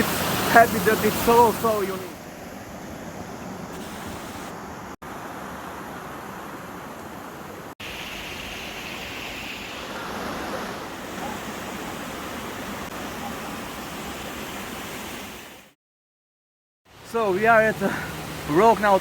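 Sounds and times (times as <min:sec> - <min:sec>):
rushing flowing water: 0:00.0 - 0:15.8, 0:16.9 - 0:19.0.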